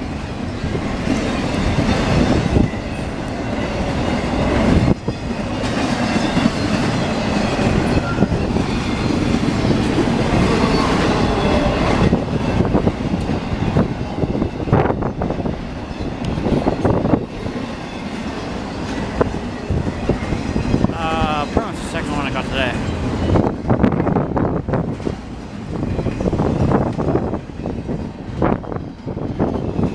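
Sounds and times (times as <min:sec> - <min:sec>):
freight train cars rolling: 0:00.0 - 0:29.9.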